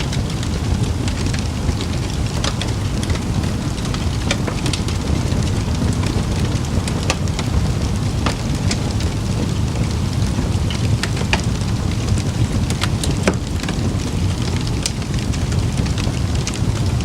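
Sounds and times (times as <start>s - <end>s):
burning wood crackling and popping: 0.0s - 17.0s
campfire flames rushing: 0.0s - 17.0s.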